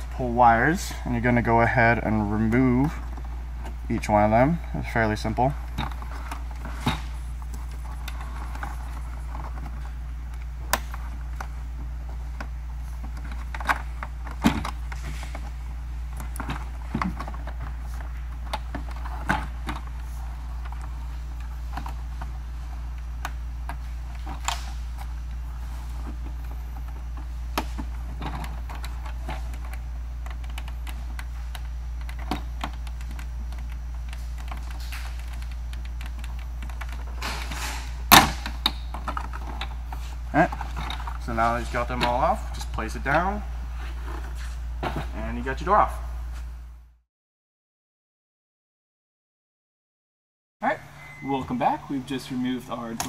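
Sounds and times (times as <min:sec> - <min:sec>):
steady low hum: 0:00.0 - 0:47.0, 0:50.6 - 0:53.0.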